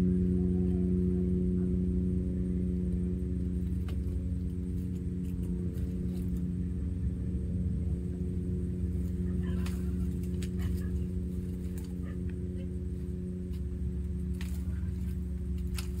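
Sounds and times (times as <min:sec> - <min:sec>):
low droning hum: 0:00.0 - 0:16.0
reed stems crackling: 0:02.7 - 0:16.0.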